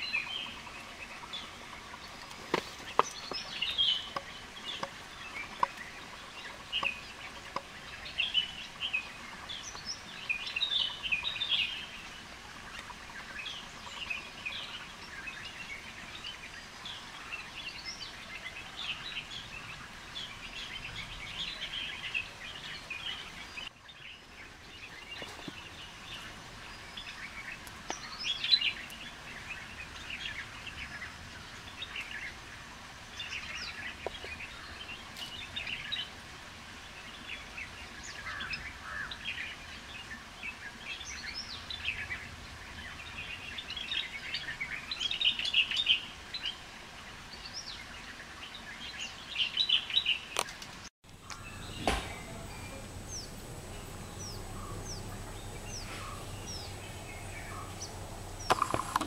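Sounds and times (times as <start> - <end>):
birds chirping and calling: 0.0 - 36.1, 36.9 - 46.7, 47.3 - 59.0
soft background hiss: 0.0 - 59.0.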